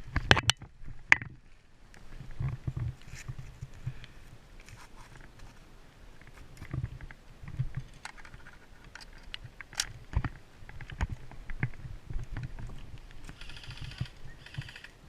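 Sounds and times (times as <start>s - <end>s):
sharp clicks and crackles: 0.0s - 5.6s, 6.2s - 15.0s.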